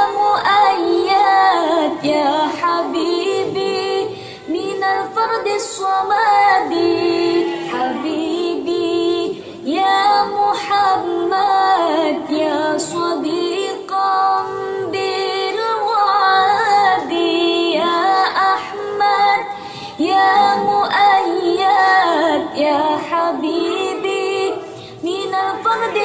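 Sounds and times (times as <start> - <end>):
woman singing: 0.0 - 26.0.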